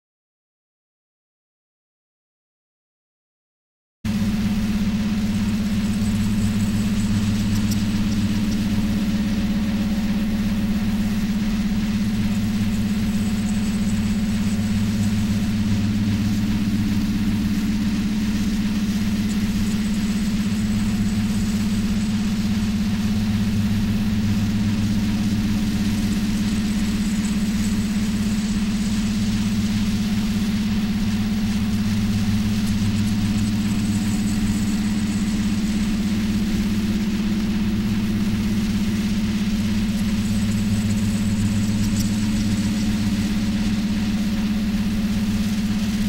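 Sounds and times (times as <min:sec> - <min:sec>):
constant hiss: 0:04.1 - 0:46.0
low electronic drone: 0:04.1 - 0:46.0.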